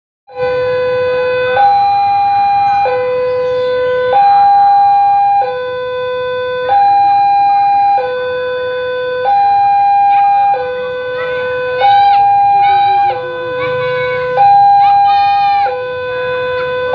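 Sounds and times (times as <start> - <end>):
electronic two-tone siren: 0.3 - 16.9.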